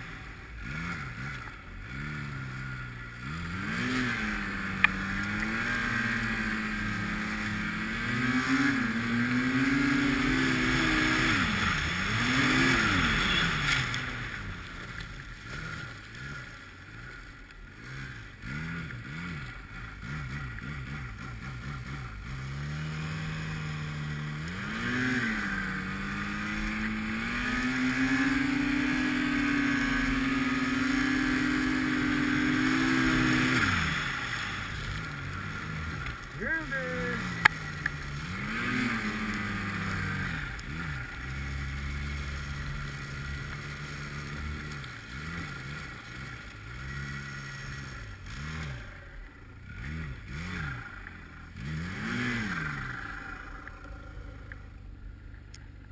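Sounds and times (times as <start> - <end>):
snowmobile engine revving: 0.0 - 55.2.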